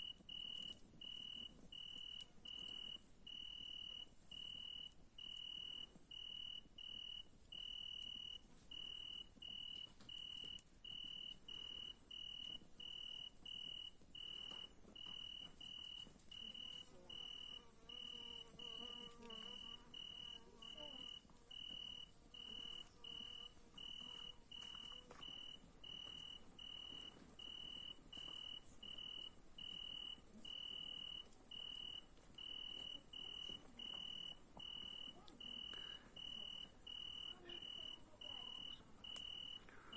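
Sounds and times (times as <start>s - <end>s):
continuous insect buzz: 0.0s - 39.9s
crickets chirping: 0.0s - 39.9s.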